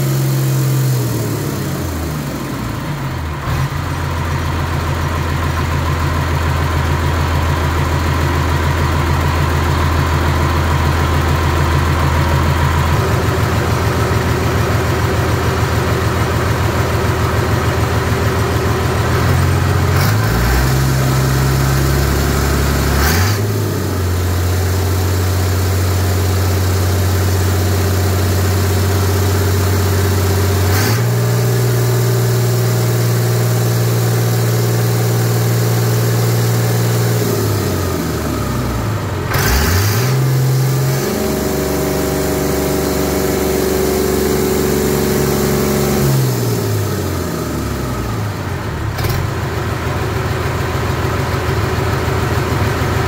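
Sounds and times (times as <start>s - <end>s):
diesel engine clattering: 0.0s - 53.0s.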